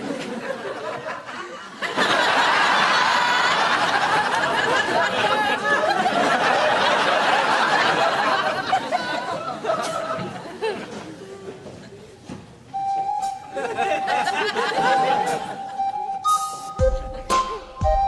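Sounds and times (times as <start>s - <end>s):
audience laughing: 0.0s - 12.2s, 13.4s - 17.8s.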